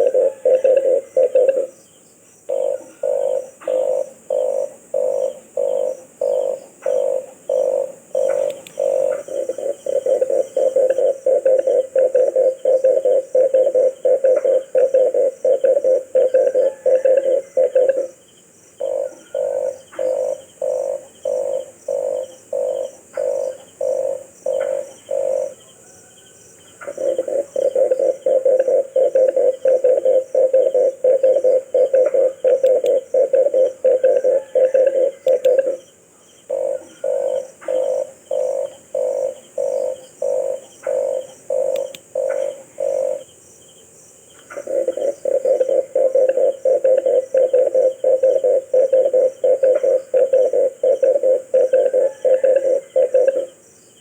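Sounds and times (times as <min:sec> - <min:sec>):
dove cooing: 0:00.0 - 0:01.8, 0:02.5 - 0:18.2, 0:18.8 - 0:43.3, 0:44.4 - 0:53.6.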